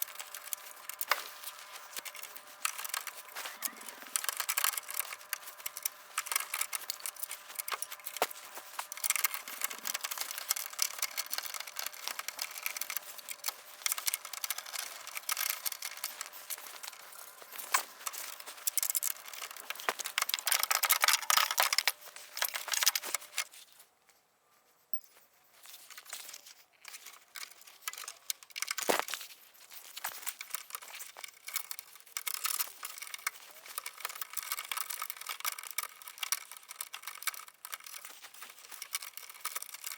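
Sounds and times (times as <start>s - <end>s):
hardware and plastic clicking rattling: 0.0s - 23.6s, 25.7s - 39.9s.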